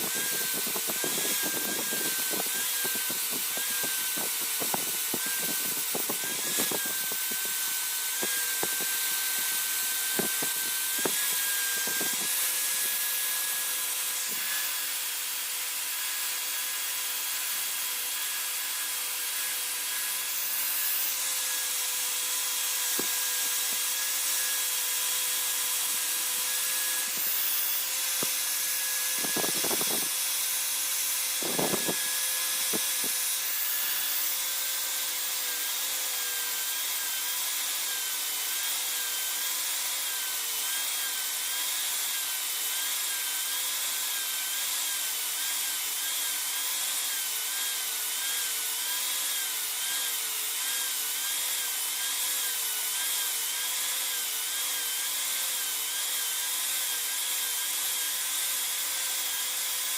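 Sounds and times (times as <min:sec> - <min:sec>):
power tool whining: 0:00.0 - 0:59.9.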